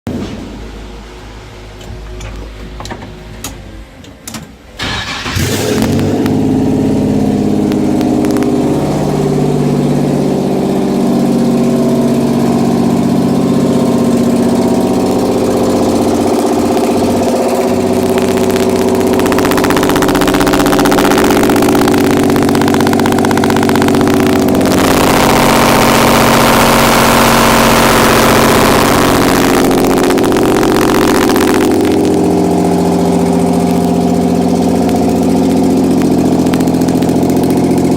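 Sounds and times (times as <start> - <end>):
car engine cranking and running: 2.2 - 37.9.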